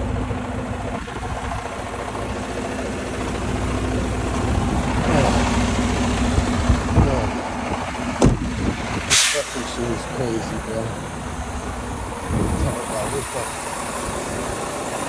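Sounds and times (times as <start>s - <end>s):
passing vehicle: 0.0s - 15.0s
vehicle engine idling: 0.0s - 15.0s.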